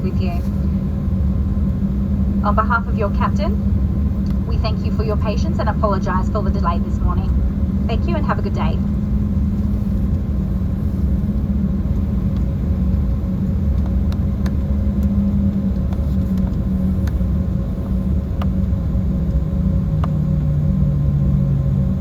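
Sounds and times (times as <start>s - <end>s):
jet cabin rumble: 0.0s - 22.0s
jet engine hum: 0.0s - 22.0s.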